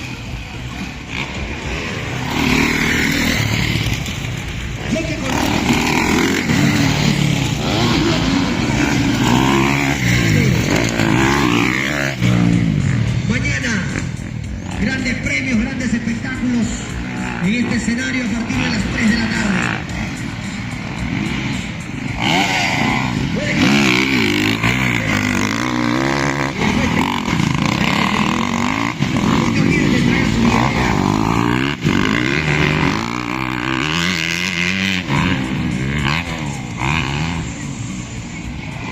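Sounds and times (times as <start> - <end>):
motorbike engines revving: 0.0 - 38.9.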